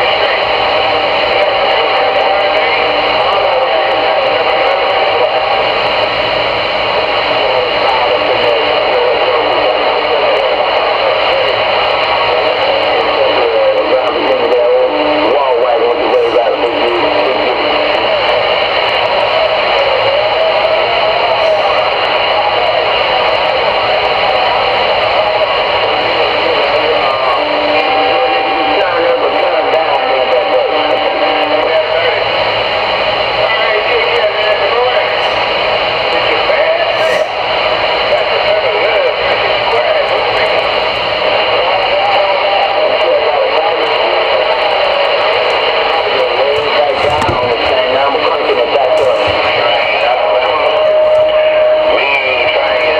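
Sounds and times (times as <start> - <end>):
radio static hiss: 0.0 - 52.9.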